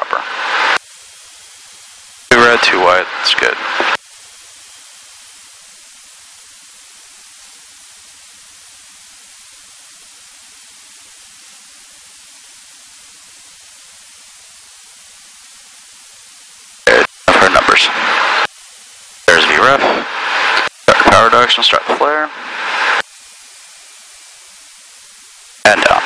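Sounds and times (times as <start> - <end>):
intercom audio hiss: 0.0 - 26.0.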